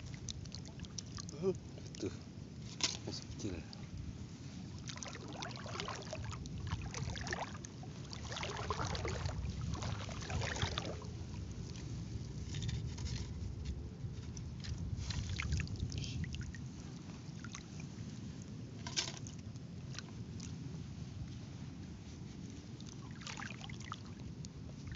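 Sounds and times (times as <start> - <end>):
water sloshing and splashing: 0.0 - 21.5, 22.1 - 24.9
steady low rumble: 0.0 - 24.9.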